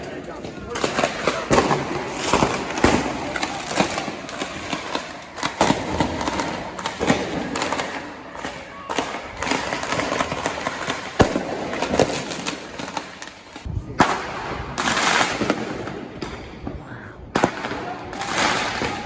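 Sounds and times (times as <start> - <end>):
fireworks crackling: 0.0 - 19.0
fireworks exploding: 0.0 - 19.0.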